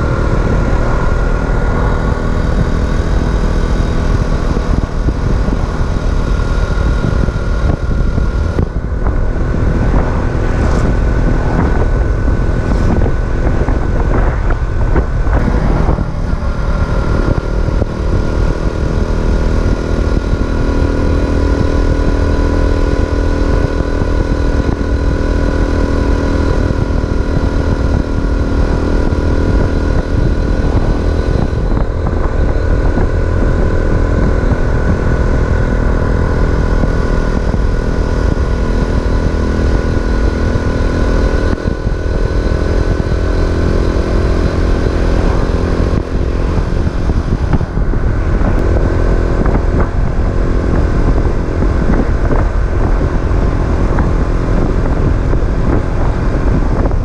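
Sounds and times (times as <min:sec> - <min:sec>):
moped engine running: 0:00.0 - 0:57.0
wind buffeting microphone: 0:00.0 - 0:57.0.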